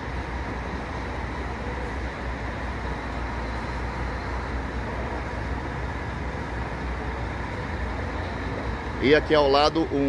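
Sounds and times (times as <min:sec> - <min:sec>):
diesel bus engine rumbling: 0:00.0 - 0:10.0.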